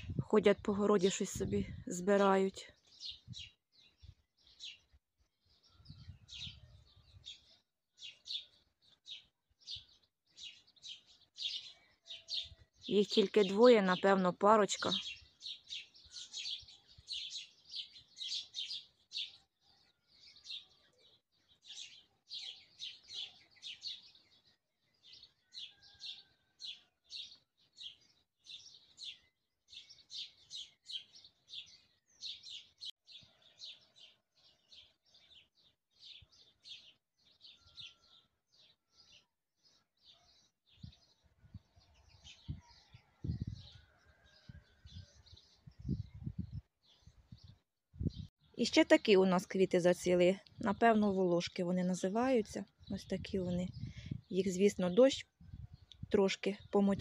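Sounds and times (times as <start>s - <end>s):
small songbird chirping: 0.0s - 57.0s.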